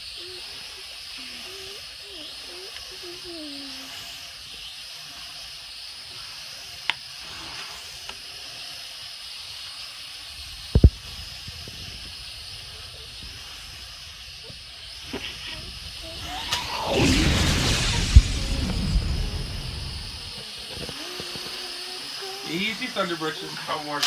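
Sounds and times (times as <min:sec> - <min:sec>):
quadcopter rotors whirring: 0:00.0 - 0:24.0.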